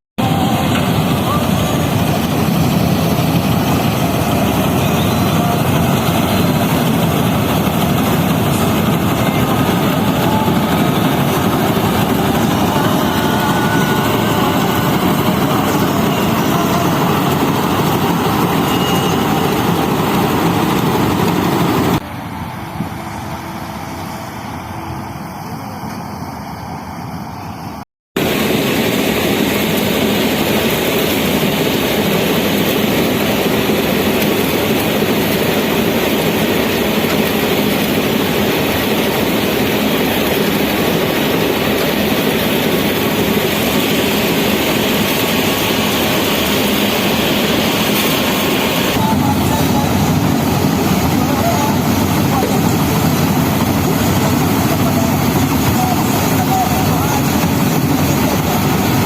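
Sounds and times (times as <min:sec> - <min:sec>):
harvester engine running: 0:00.2 - 0:59.0.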